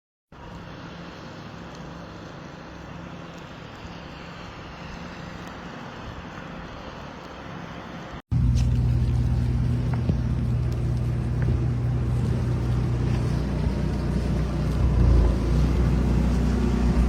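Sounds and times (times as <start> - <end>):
steady outdoor noise: 0.3 - 17.0.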